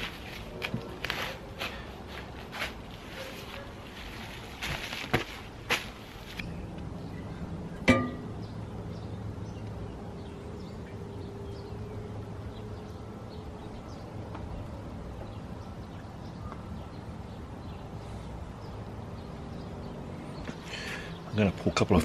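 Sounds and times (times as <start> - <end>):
faint birds chirping: 0.0 - 22.0.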